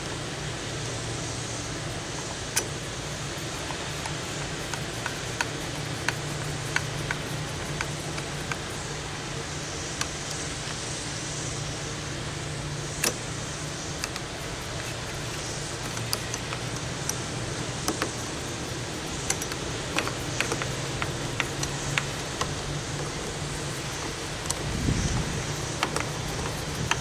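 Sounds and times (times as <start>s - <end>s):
low hum and hiss: 0.0s - 27.0s.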